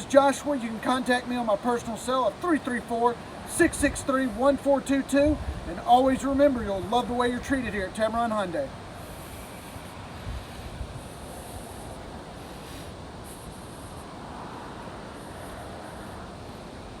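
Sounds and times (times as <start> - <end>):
wind noise on microphone: 3.4 - 17.0.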